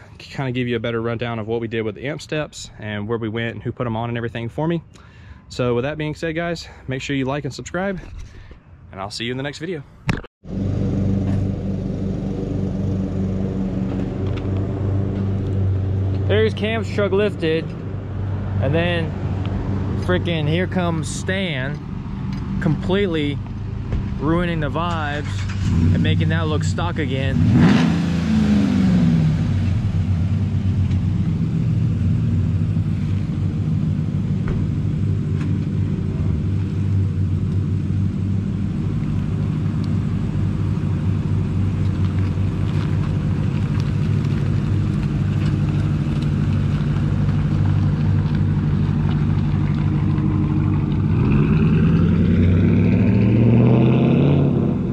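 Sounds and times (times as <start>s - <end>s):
truck engine idling and revving: 0.0s - 3.5s, 10.4s - 54.9s.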